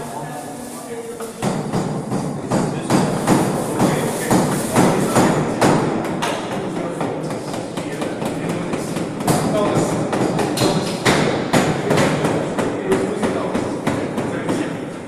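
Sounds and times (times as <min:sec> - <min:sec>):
hammer knocks and thuds: 0:01.4 - 0:14.7.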